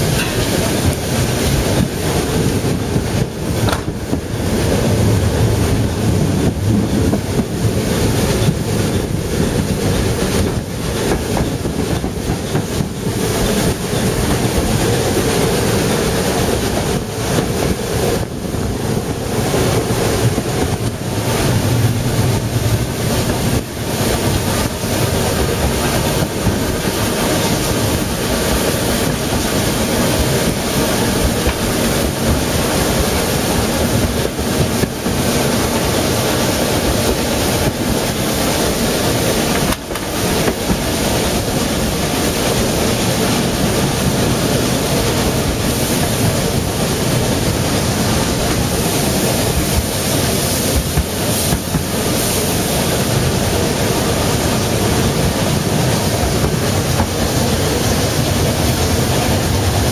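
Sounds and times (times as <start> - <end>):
train wheel and running noise: 0.0 - 59.9
wind buffeting microphone: 0.0 - 59.9.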